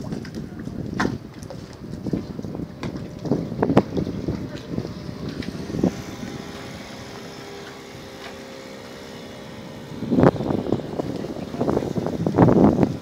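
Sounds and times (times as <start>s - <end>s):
boat engine hum: 0.0s - 13.0s
wind buffeting microphone: 0.0s - 13.0s.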